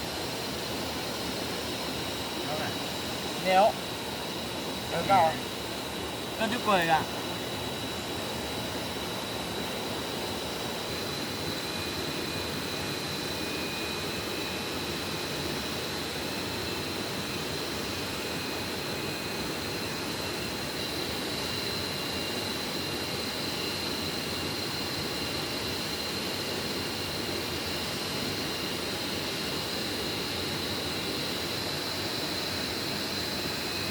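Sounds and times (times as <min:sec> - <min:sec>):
faint high whine: 0:00.0 - 0:33.9.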